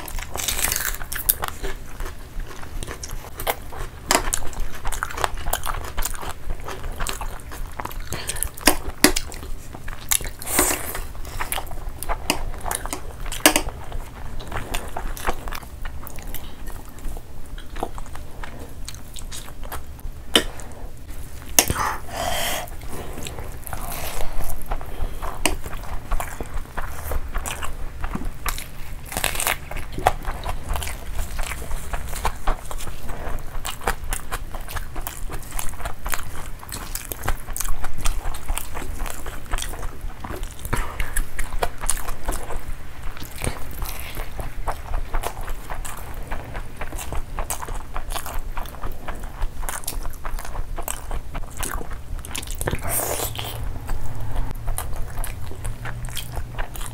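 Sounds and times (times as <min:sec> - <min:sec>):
wet chewing: 0:00.0 - 0:56.9.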